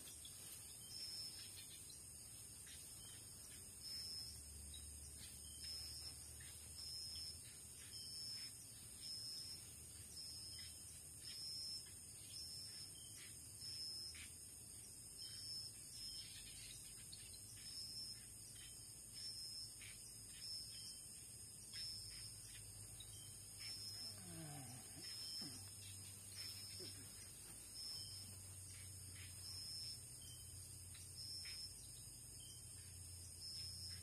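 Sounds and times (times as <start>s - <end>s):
high insect chirp: 0.0s - 34.0s
insects hissing: 0.0s - 34.0s.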